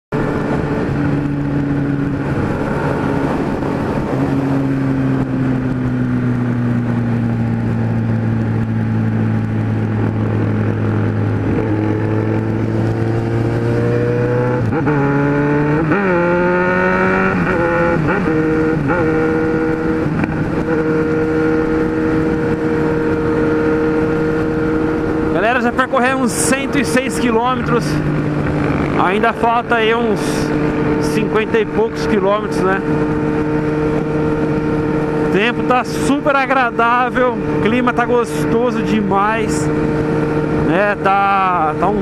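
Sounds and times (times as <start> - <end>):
motorcycle engine revving: 0.1 - 42.0
wind rush: 0.1 - 42.0.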